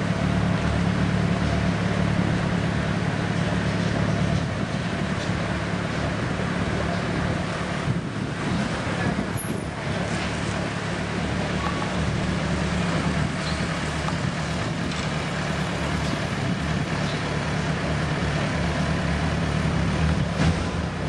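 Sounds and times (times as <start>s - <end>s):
street noise: 0.0s - 21.0s
vehicle engine idling: 0.0s - 21.0s.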